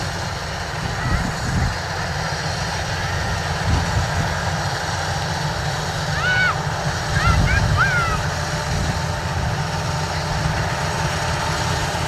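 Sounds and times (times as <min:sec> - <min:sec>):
combine harvester engine rumbling: 0:00.0 - 0:12.0.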